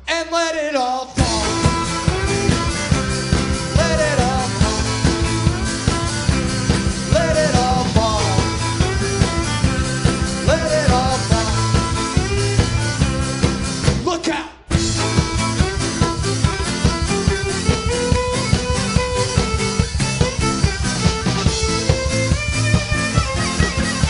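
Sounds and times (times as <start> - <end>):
sliding melody notes: 1.2 - 13.9, 14.7 - 24.0
strummed acoustic guitar: 1.2 - 14.1, 14.7 - 24.0
drum kit: 1.2 - 24.0
upright bass: 1.2 - 24.0.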